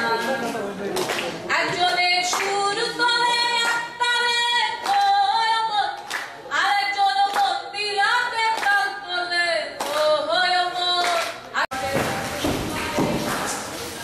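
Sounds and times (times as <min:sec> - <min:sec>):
woman singing into a microphone: 0:01.5 - 0:14.0.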